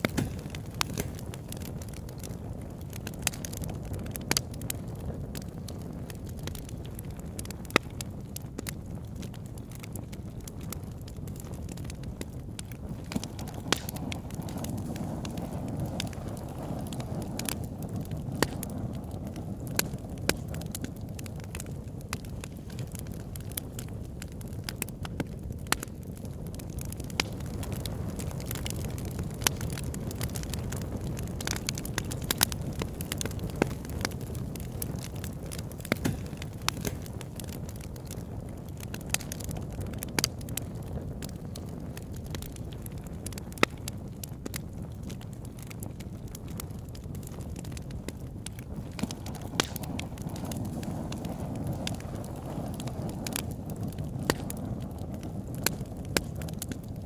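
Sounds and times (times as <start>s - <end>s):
fire crackling and popping: 0.0s - 57.0s
rush of flames: 0.0s - 57.0s.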